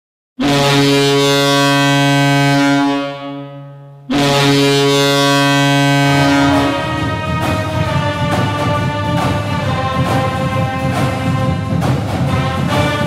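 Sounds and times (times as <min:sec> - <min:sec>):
hockey goal horn blasts: 0:00.4 - 0:13.0.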